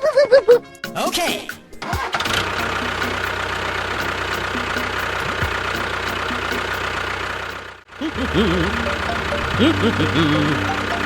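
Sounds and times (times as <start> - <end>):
engine idling with knock: 1.9 - 11.0.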